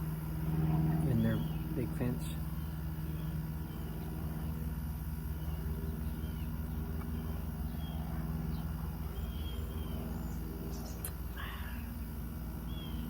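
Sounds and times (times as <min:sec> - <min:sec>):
low mechanical hum: 0:00.0 - 0:13.0
faint bird chirps: 0:01.2 - 0:04.6, 0:05.3 - 0:12.0, 0:12.6 - 0:13.0.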